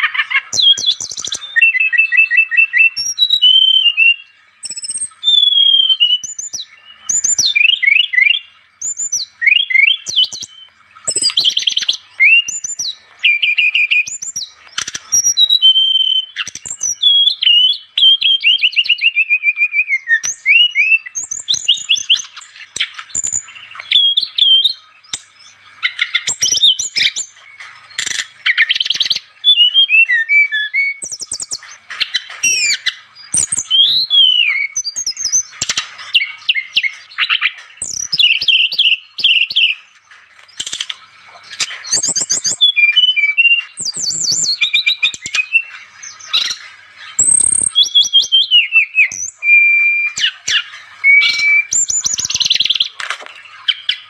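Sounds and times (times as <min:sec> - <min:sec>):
bird singing: 0:00.0 - 0:54.0.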